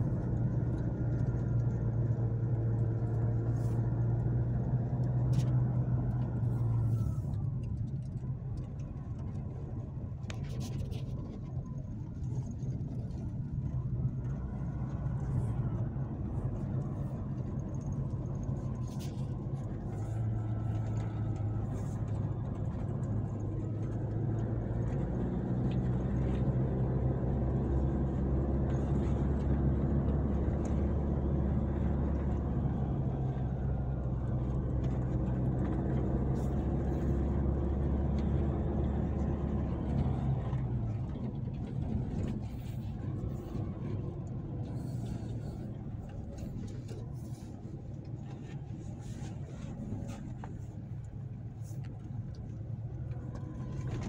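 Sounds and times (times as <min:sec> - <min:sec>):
engine and road noise in cabin: 0:00.0 - 0:54.0.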